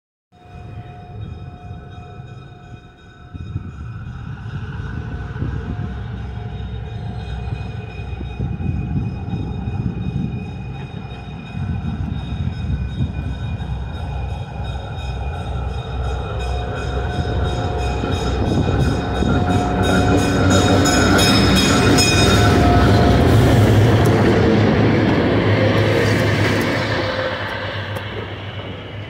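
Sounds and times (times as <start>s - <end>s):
diesel locomotive engine rumble: 0.4s - 29.0s.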